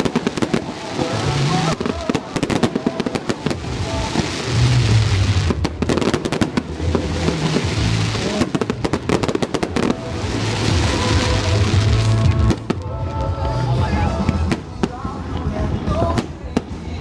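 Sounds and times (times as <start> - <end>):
fireworks bangs and crackles: 0.0 - 17.0
pop music over sound system: 0.0 - 17.0.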